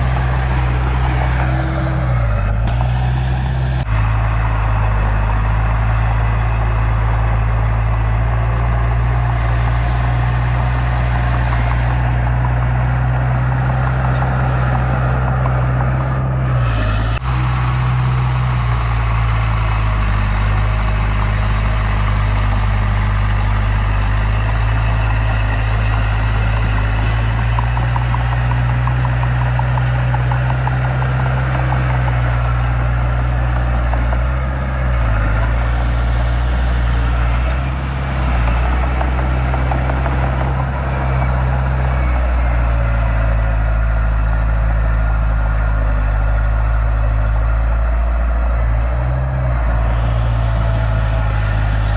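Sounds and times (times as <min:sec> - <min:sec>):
heavy diesel engine rumbling: 0:00.0 - 0:51.9.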